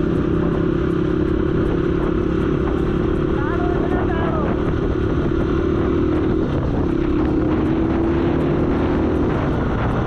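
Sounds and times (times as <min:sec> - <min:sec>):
motorcycle engine cruising: 0:00.0 - 0:10.0
wind rumble on microphone: 0:00.0 - 0:10.0.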